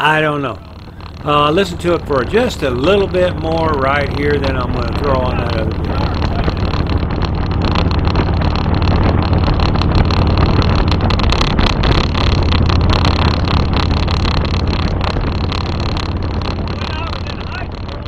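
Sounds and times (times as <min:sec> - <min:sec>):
heavy wind noise: 0:00.0 - 0:18.0
motorcycle engine running: 0:00.0 - 0:18.0
camera rattling against windshield: 0:00.5 - 0:18.0.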